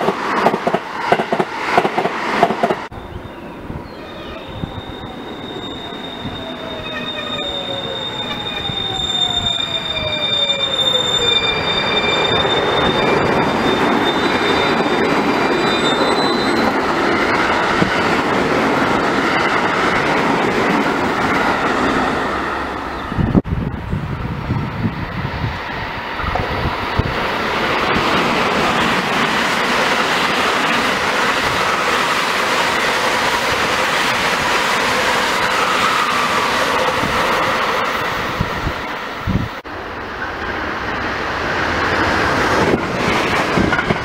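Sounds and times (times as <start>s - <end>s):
train passing roar: 0.0s - 44.0s.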